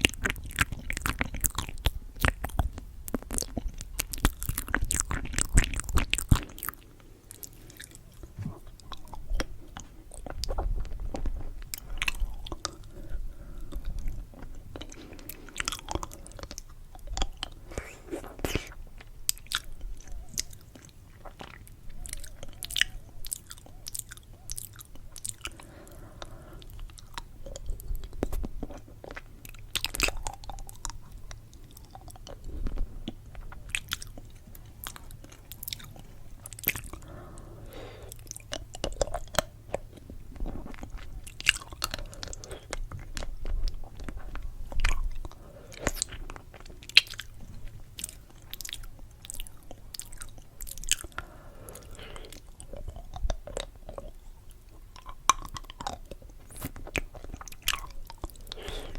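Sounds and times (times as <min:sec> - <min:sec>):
candy being chewed and crunched: 0:00.0 - 0:58.9.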